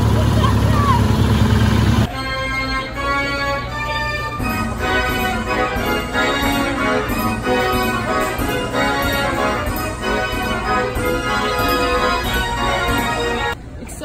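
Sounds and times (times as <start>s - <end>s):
carousel band organ playing: 0.0s - 13.7s.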